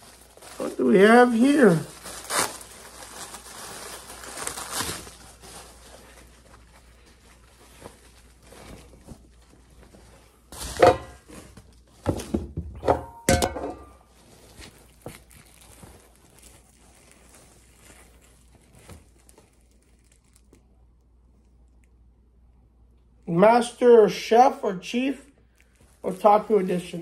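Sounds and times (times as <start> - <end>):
bubble wrap bag crinkling: 0.0 - 12.2, 13.8 - 21.9, 25.4 - 27.0.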